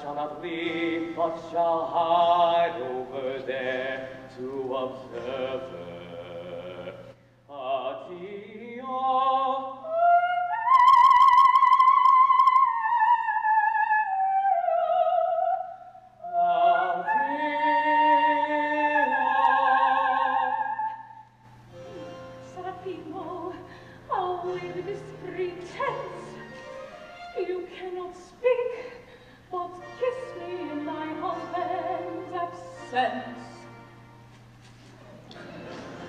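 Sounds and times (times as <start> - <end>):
operatic soprano singing: 0.0 - 21.2, 22.4 - 33.9.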